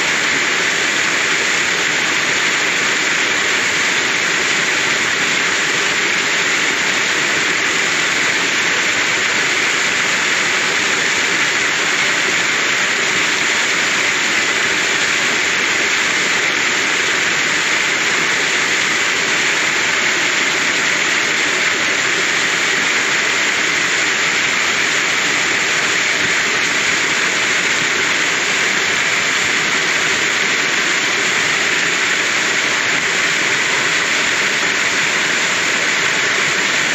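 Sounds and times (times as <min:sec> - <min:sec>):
waterfall splashing into pool: 0:00.0 - 0:36.9.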